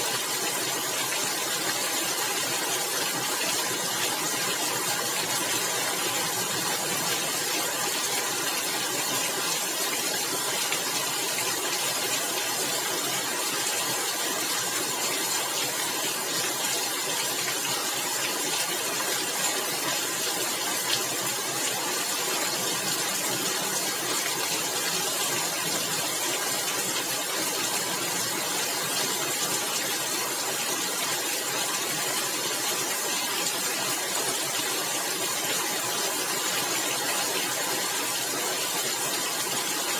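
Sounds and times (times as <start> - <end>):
rain on roof tiles: 0.0 - 39.9.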